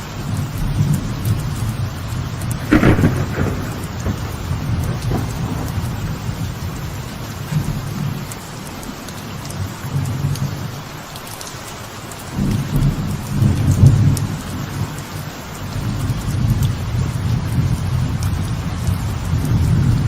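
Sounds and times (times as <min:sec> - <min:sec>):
thunder rumbling: 0:00.0 - 0:10.8, 0:12.3 - 0:20.0
light rain falling: 0:00.0 - 0:20.0.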